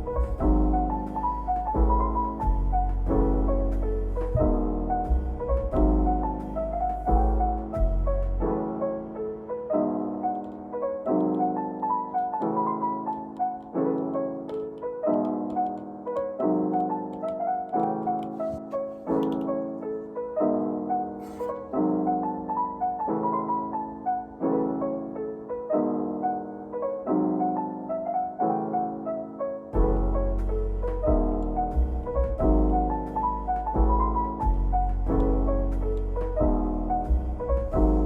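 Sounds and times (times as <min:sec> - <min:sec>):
calm piano music: 0:00.0 - 0:38.0.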